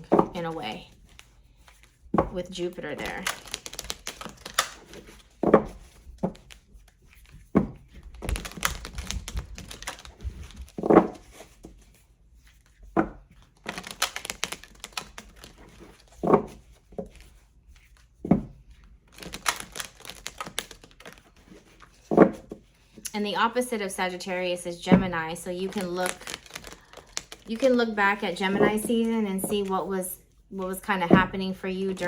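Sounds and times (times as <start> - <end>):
cards shuffling: 0.0 - 23.0, 24.8 - 30.0.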